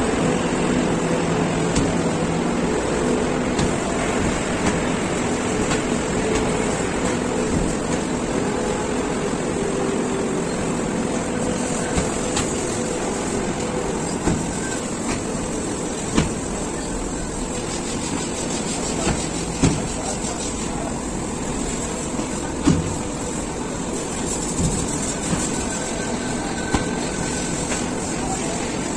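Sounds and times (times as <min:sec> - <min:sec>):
conveyor mechanical din: 0:00.0 - 0:28.9.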